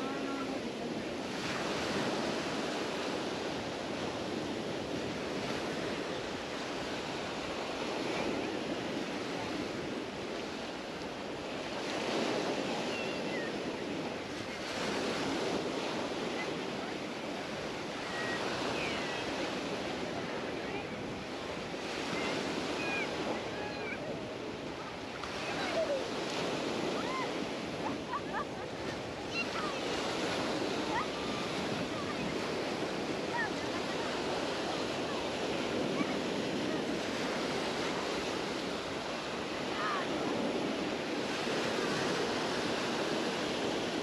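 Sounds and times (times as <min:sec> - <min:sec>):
surf breaking on beach: 0:00.0 - 0:44.0.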